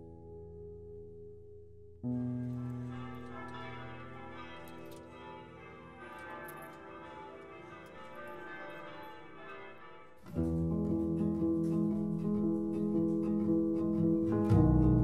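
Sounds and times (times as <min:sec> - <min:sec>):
soft bell-like soundtrack music: 0:02.1 - 0:15.0.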